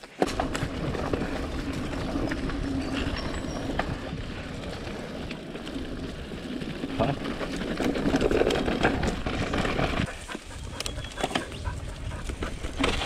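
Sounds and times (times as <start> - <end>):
bike clicks and rattles: 0.0 - 13.0
tyres rumbling on dirt: 0.1 - 13.0.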